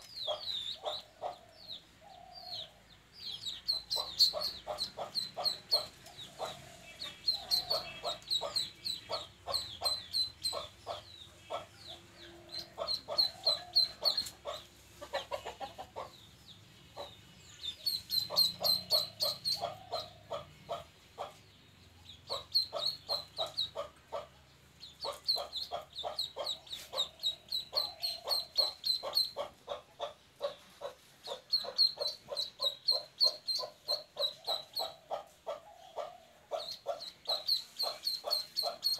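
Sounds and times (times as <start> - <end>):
duckling peeping: 0.1 - 1.8, 3.2 - 16.1, 17.0 - 21.4, 22.0 - 38.9.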